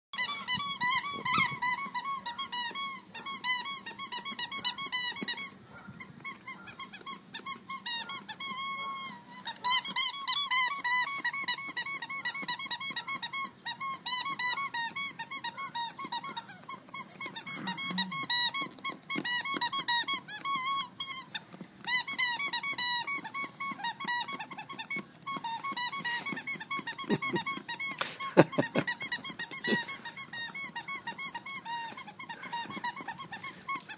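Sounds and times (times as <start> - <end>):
dog's squeaky toy squeaking: 0.2 - 33.9.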